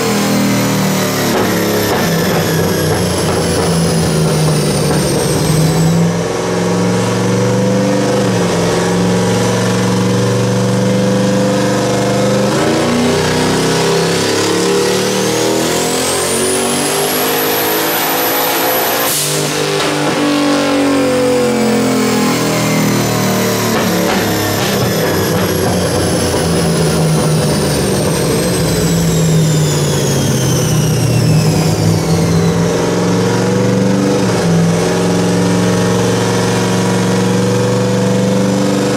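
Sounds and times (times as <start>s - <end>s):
turbo whine: 0.0s - 11.2s, 12.5s - 38.5s
engine revving at full throttle: 0.0s - 38.9s.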